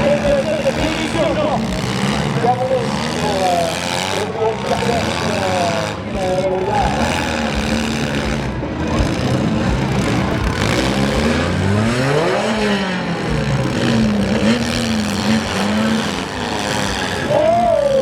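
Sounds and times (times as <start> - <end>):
car engines revving: 0.0 - 18.0
loud steady din: 0.0 - 18.0.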